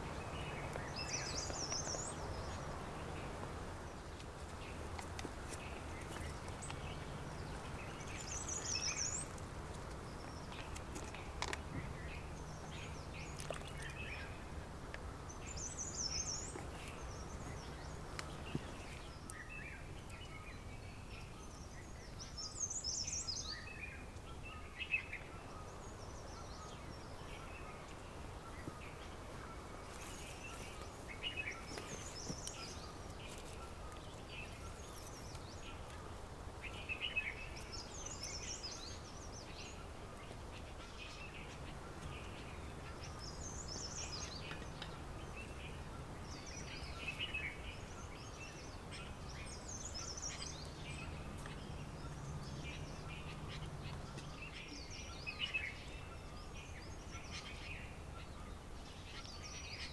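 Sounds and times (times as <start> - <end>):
birds chirping: 0.0 - 14.6, 15.3 - 59.9.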